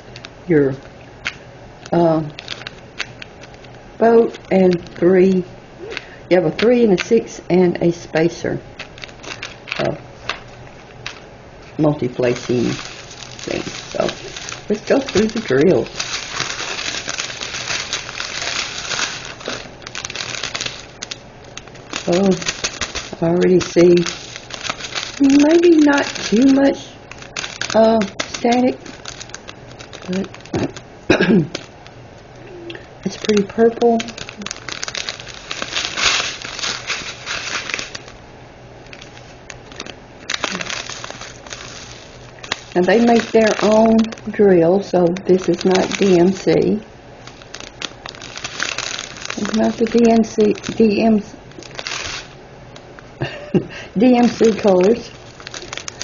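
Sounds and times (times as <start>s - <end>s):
plastic bags crinkling: 1.2s - 7.4s, 8.7s - 56.0s.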